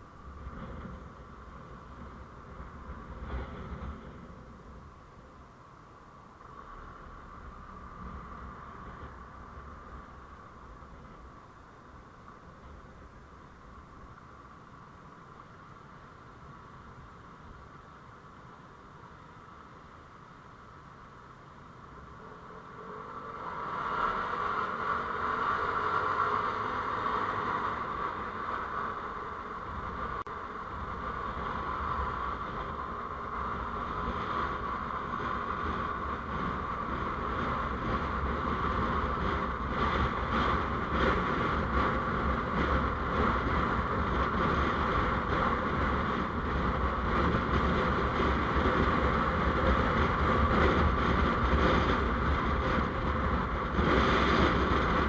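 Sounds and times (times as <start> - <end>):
vehicle road noise: 0.0 - 55.0.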